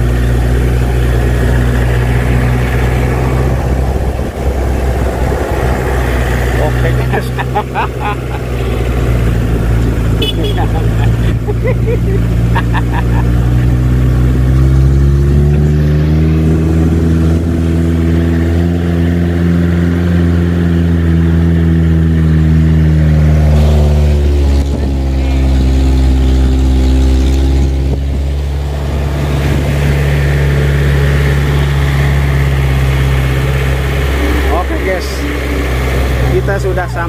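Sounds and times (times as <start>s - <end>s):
car engine running: 0.0s - 37.0s.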